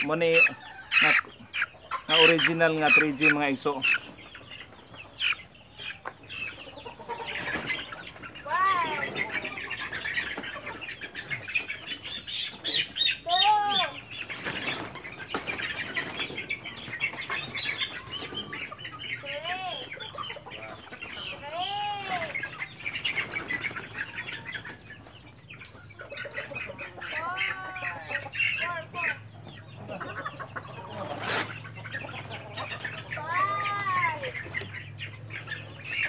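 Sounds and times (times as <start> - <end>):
chicken squawks: 0.0 - 4.1, 5.2 - 24.9, 25.9 - 29.2, 29.8 - 36.0
chickens clucking and chirping: 0.0 - 36.0.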